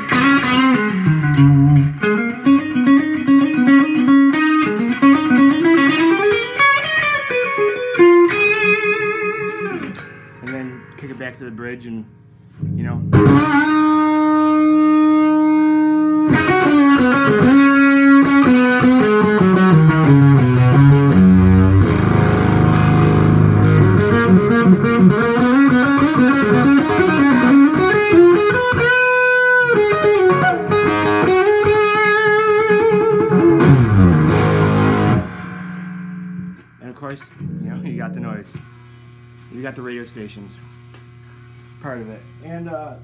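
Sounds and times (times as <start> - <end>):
fuzz electric guitar riffs: 0.0 - 39.4.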